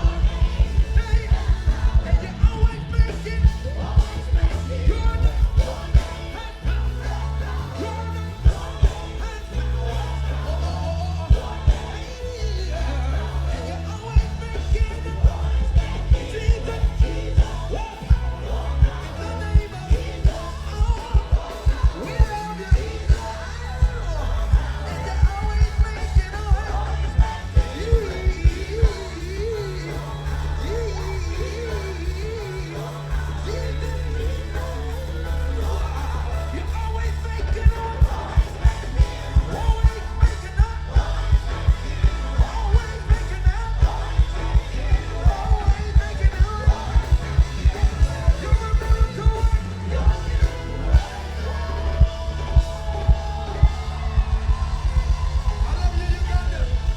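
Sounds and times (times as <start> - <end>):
gospel band playing: 0.0 - 56.9
singing: 0.0 - 56.9.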